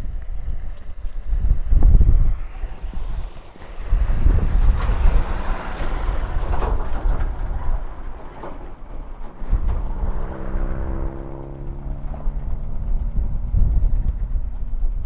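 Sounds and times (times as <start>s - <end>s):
steady engine hum: 0.0s - 15.0s
wind buffeting microphone: 0.0s - 15.0s.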